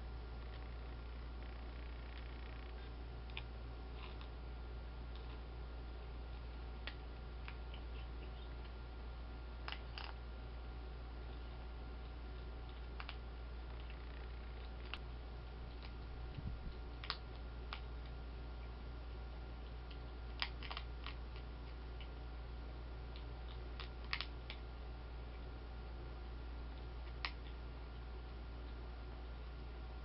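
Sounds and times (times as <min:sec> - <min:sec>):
steady low hum: 0:00.0 - 0:30.0
animal crunching dry kibble: 0:00.4 - 0:04.5, 0:05.1 - 0:08.8, 0:09.6 - 0:10.3, 0:11.1 - 0:25.6, 0:26.6 - 0:28.8.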